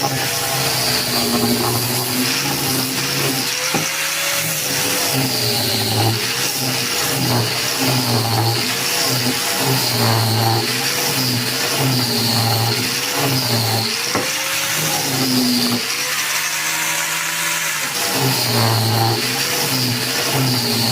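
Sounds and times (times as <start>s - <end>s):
angle grinder whining: 0.0s - 20.9s.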